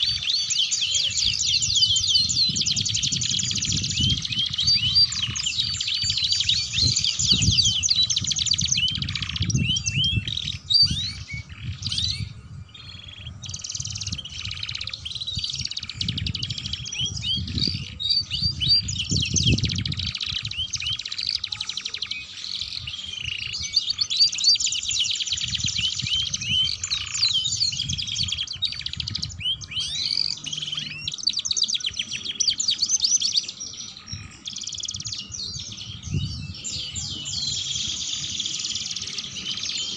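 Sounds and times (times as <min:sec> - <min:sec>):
canaries trilling and warbling: 0:00.0 - 0:39.9.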